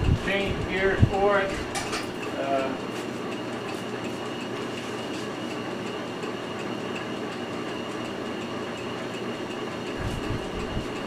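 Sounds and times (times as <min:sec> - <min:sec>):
metal lathe running with whine: 0:00.0 - 0:11.0.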